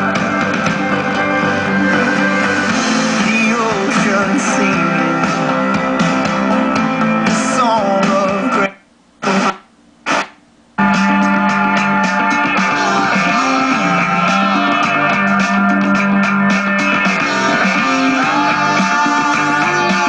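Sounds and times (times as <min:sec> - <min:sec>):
guitar song with vocals: 0:00.0 - 0:20.0.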